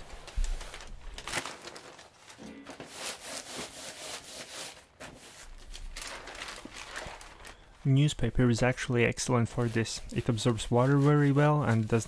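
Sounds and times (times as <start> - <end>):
newspaper rustling: 0.0 - 12.0.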